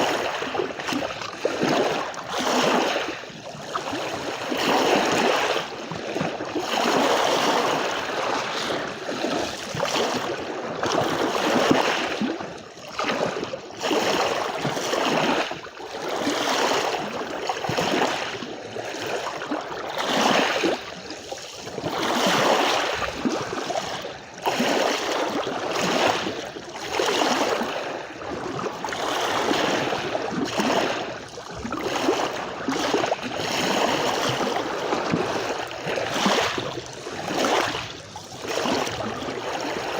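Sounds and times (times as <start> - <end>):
waves washing onto beach: 0.0 - 39.9.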